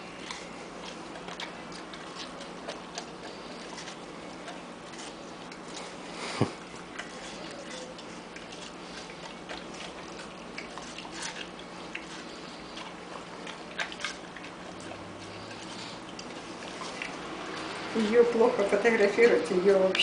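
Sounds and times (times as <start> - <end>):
dog chewing watermelon crunches: 0.0 - 20.0.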